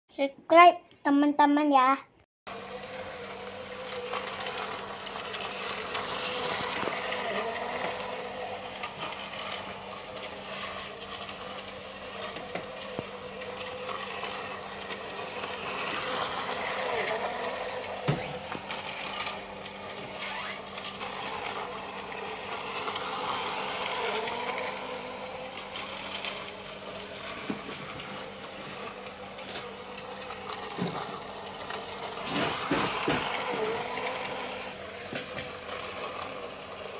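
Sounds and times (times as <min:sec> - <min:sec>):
toy train motor whirring: 0:02.5 - 0:36.9
wheels rattling over plastic track: 0:02.5 - 0:36.9.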